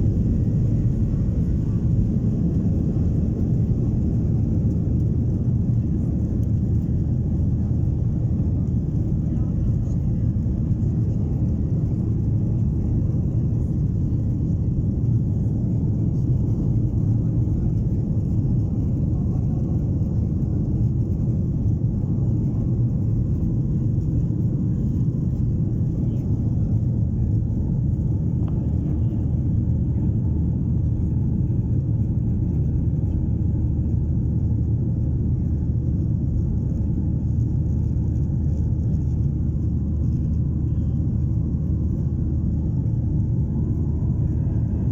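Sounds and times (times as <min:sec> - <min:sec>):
airliner engine rumble in cabin: 0:00.0 - 0:44.9.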